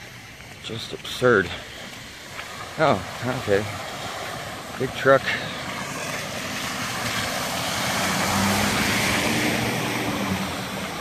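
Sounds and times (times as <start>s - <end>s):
truck engine hum: 0.0s - 11.0s
tyres spraying through water: 0.0s - 11.0s.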